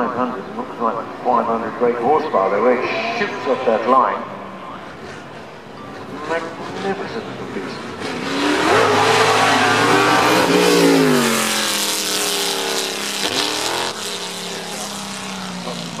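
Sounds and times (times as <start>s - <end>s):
racing car accelerating: 0.0s - 16.0s.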